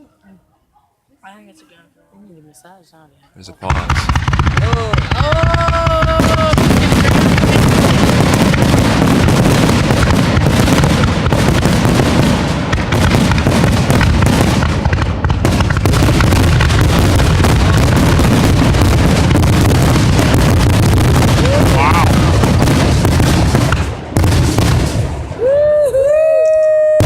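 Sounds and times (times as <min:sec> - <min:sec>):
fireworks booming and crackling: 0:03.6 - 0:25.8.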